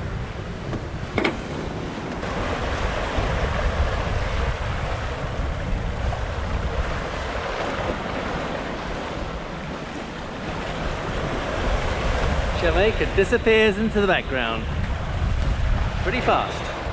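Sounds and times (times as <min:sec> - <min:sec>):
water rushing past hull: 0:00.0 - 0:16.9
wind buffeting microphone: 0:00.0 - 0:16.9.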